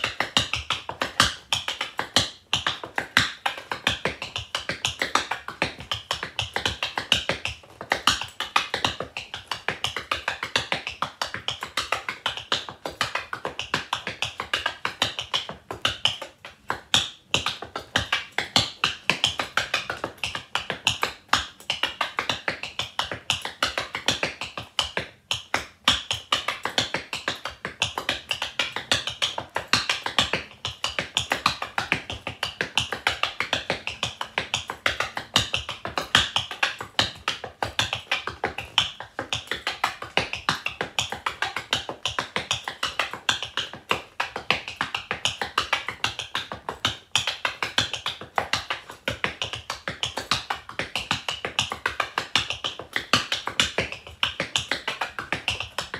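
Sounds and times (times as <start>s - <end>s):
tap shoes clicking on floor: 0.0s - 55.9s.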